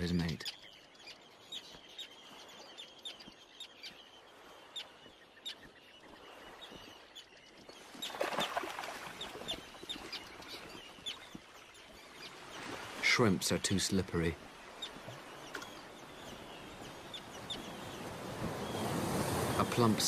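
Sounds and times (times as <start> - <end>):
terns calling: 0.0 - 20.0.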